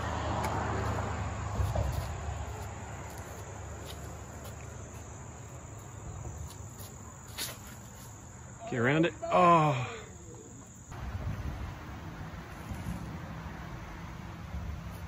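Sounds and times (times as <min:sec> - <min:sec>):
insects chirring: 0:00.8 - 0:15.0.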